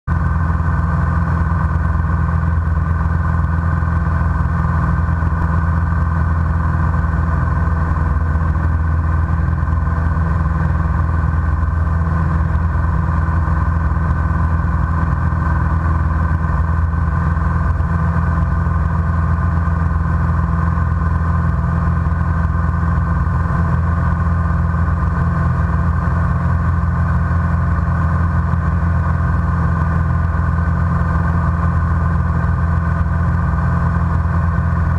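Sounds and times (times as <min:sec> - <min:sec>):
light aircraft engine drone: 0:00.1 - 0:34.9.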